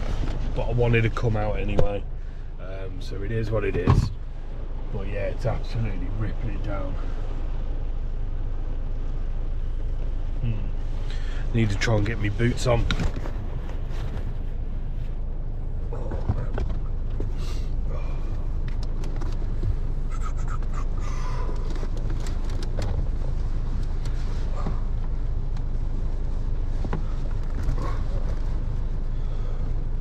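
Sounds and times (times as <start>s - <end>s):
heavy rain on a car: 0.0s - 30.0s.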